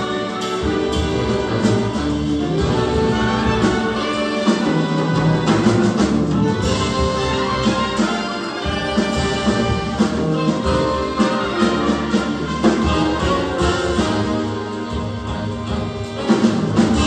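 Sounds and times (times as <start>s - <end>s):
big band jazz playing live: 0.0s - 17.0s
steady drum beat: 0.0s - 17.0s.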